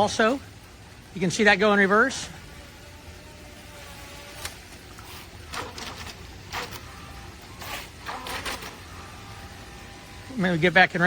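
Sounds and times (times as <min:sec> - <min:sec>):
electric boat motor whirring: 0:00.0 - 0:11.0.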